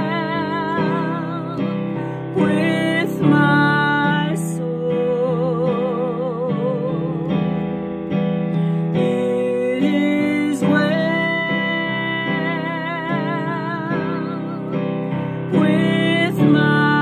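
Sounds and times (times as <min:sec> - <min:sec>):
instrumental accompaniment of chords: 0:00.0 - 0:17.0
woman singing: 0:00.0 - 0:17.0.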